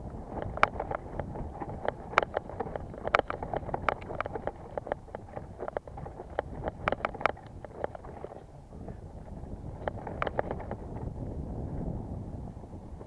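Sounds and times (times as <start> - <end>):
mountain bike rattling: 0.0 - 12.2
wind on microphone: 0.0 - 13.0.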